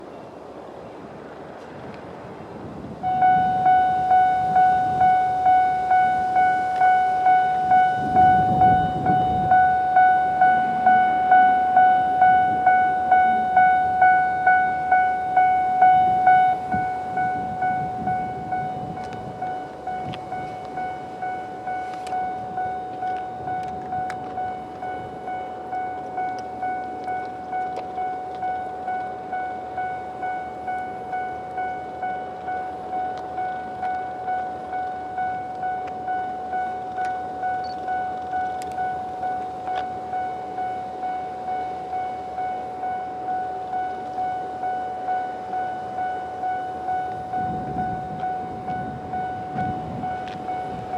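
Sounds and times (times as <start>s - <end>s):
level crossing warning bell: 2.5s - 50.9s.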